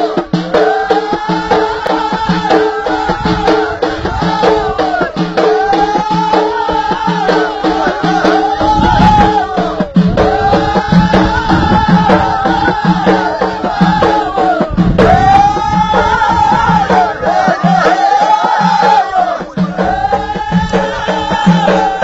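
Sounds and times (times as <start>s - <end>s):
frame drums beating: 0.0s - 22.0s
voices chanting: 0.0s - 22.0s.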